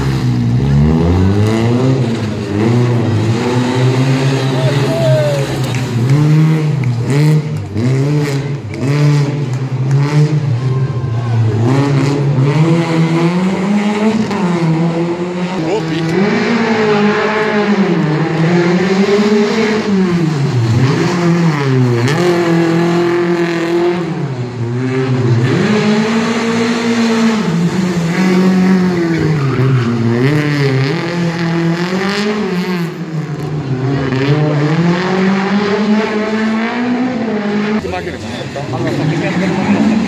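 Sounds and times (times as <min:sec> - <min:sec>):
car engine revving: 0:00.0 - 0:10.7, 0:11.3 - 0:40.0.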